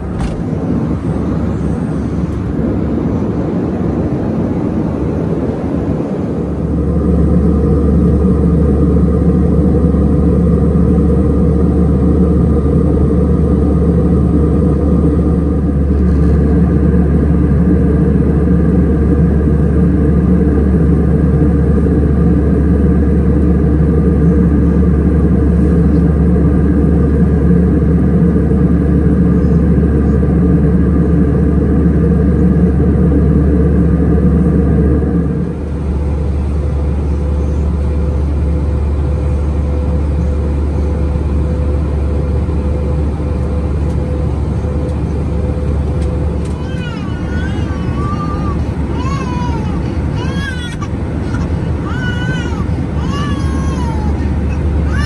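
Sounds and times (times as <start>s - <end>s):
jet engine and airflow drone: 0.0s - 55.0s.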